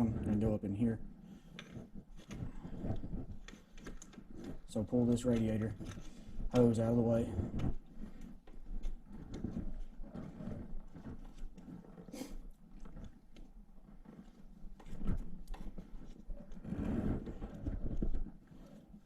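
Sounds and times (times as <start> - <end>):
hands rubbing and scraping: 0.0 - 19.0.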